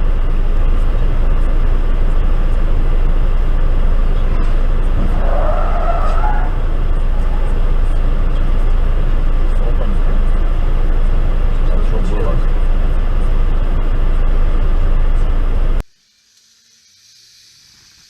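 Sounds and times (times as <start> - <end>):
car driving road noise: 0.0 - 15.9.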